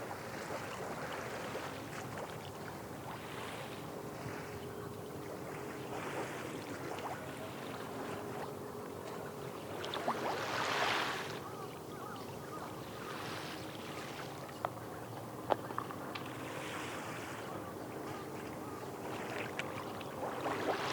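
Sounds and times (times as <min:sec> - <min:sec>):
distant boat engine hum: 0:00.0 - 0:20.9
small waves washing on shore: 0:00.0 - 0:20.9.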